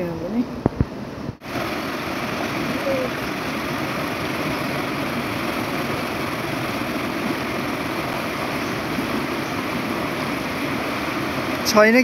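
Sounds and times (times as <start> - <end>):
river rapids rushing over rocks: 1.4 - 12.0.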